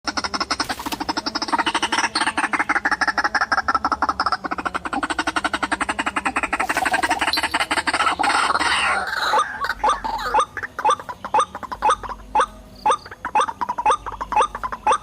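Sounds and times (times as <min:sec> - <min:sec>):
bird chattering harsh croaks: 0:00.0 - 0:15.0.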